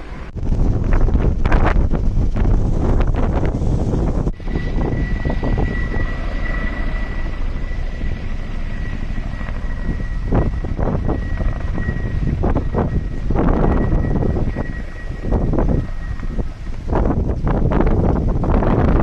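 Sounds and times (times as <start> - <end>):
helicopter flying: 0.0 - 19.0.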